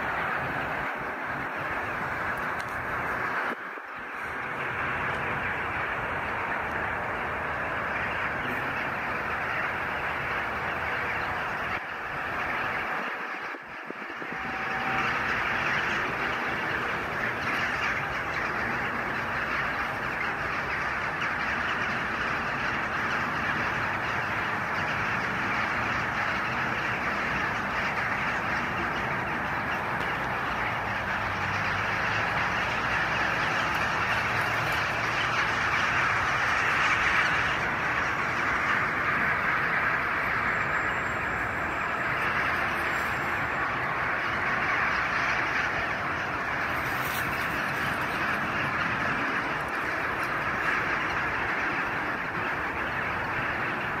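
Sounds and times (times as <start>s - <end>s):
large flock of birds calling: 0.0s - 54.0s.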